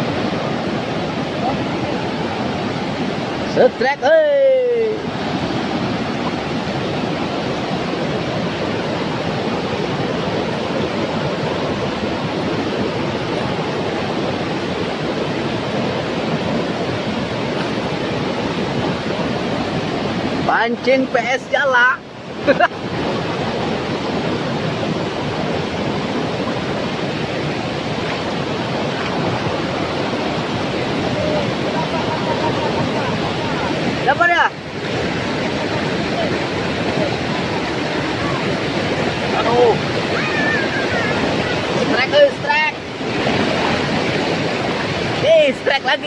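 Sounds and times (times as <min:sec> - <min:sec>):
river rushing over rapids: 0:00.0 - 0:46.0.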